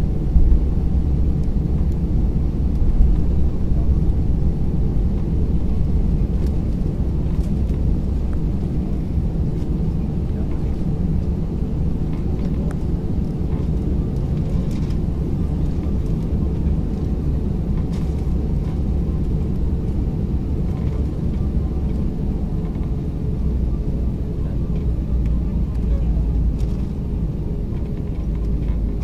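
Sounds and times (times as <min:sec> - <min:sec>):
jet engines at takeoff power: 0:00.0 - 0:29.0
wheels rumbling on runway: 0:00.0 - 0:29.0.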